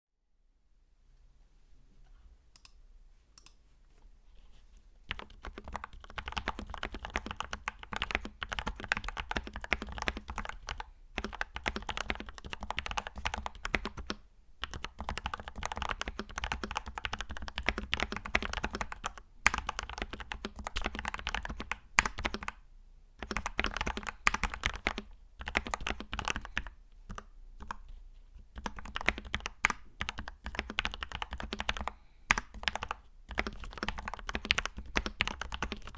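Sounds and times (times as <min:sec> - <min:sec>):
mechanical keyboard typing: 0:05.1 - 0:22.6, 0:23.2 - 0:27.8, 0:28.6 - 0:35.9.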